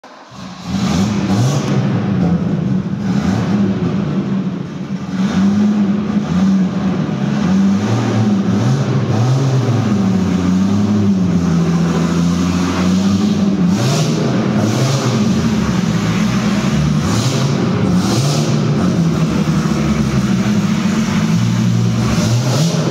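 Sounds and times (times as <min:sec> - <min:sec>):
car engine idling roughly: 0:00.0 - 0:07.5, 0:09.9 - 0:22.9
engine throttle blips: 0:00.0 - 0:22.9.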